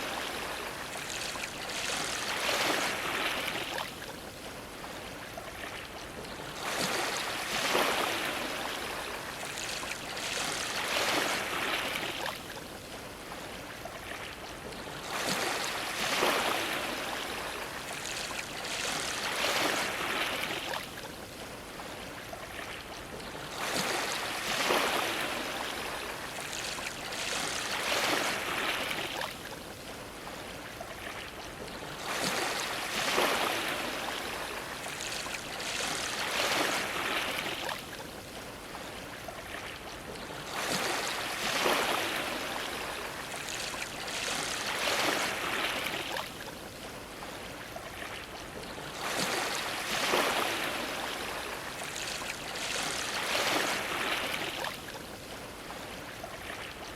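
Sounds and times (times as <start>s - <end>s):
ocean waves splashing against dock: 0.0s - 56.9s.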